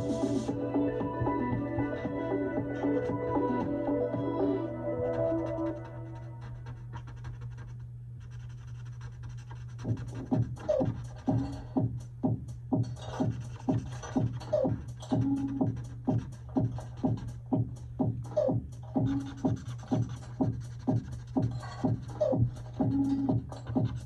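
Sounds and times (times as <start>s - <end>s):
hip-hop beat with punchy drums: 0.0s - 5.5s, 9.9s - 24.0s.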